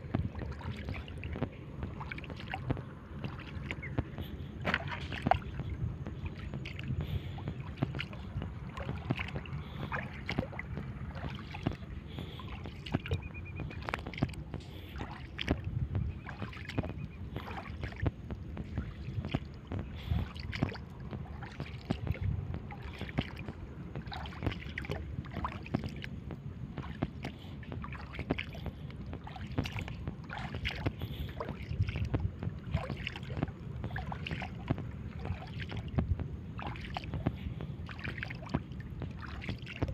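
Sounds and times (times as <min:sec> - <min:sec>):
seawater sloshing and splashing: 0:00.0 - 0:39.9
steady low rumble: 0:00.0 - 0:39.9.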